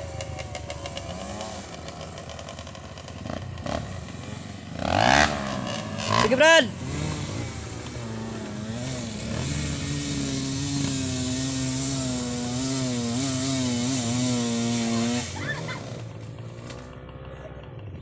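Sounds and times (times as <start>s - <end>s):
dirt bike engine labouring: 0.0s - 18.0s.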